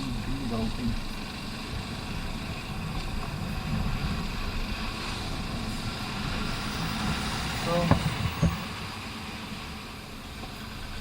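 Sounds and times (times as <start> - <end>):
road and wind rumble: 0.0 - 11.0.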